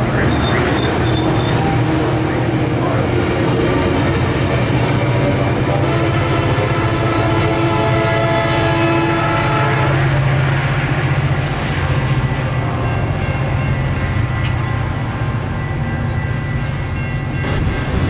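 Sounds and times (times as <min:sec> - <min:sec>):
diesel train passing: 0:00.0 - 0:18.0.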